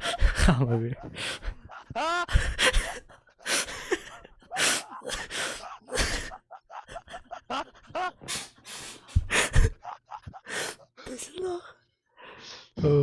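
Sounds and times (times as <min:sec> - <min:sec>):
man gasping with laughter: 0:00.0 - 0:11.0.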